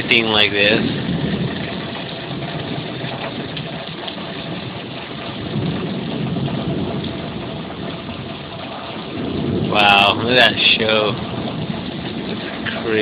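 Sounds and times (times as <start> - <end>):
heavy rain pouring: 0.0 - 13.0
thunder rumbling: 0.0 - 13.0.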